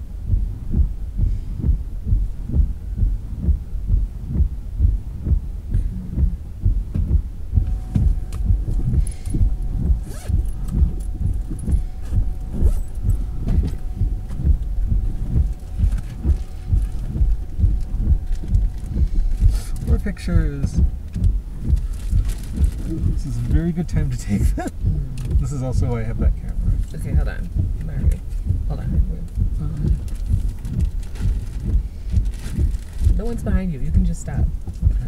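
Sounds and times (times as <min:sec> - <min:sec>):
faint steady tone: 0:00.0 - 0:35.0
windshield wipers thumping: 0:00.3 - 0:35.0.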